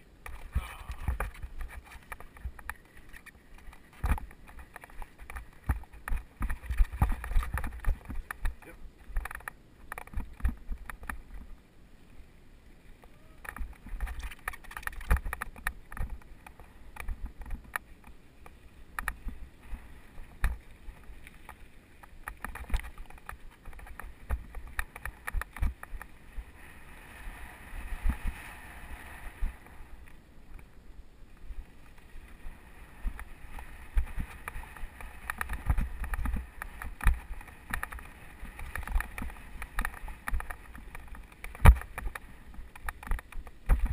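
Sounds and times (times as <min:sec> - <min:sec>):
wind rumble on microphone: 0:00.0 - 0:11.6, 0:13.0 - 0:43.9
bike knocking and rattling: 0:00.2 - 0:11.5, 0:13.2 - 0:26.2, 0:32.9 - 0:43.9.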